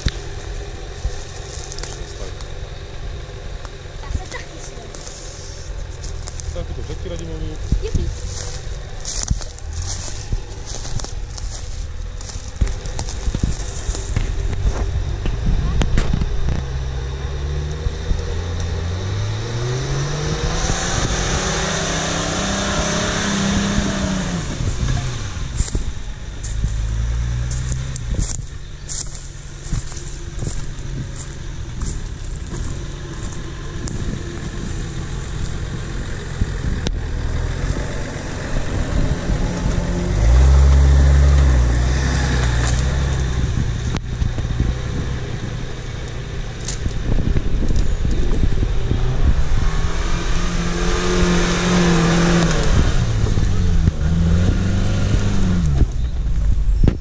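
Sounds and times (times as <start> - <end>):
branches cracking under tyres: 0.0 - 57.0
off-road engines revving: 0.0 - 57.0.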